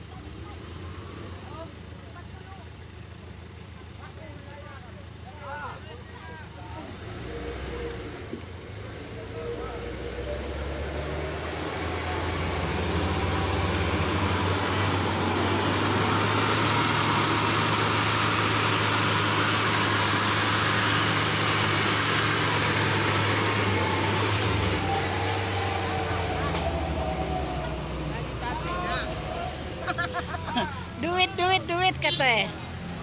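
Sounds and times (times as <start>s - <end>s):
vehicle engine running hard: 0.0s - 33.0s.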